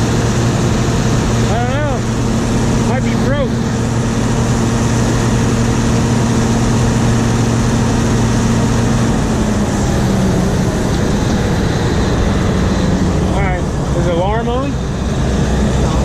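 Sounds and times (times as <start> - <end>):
combine harvester engine running: 0.0 - 16.0.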